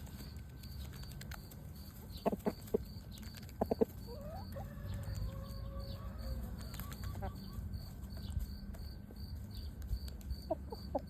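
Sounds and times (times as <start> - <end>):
chicken clucking: 0.1 - 11.0.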